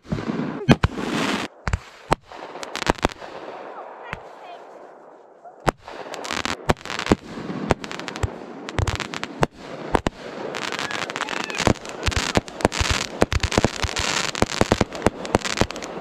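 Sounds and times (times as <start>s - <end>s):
fireworks bangs and pops: 0.0s - 4.8s, 5.6s - 16.0s
fireworks crackling: 0.0s - 16.0s.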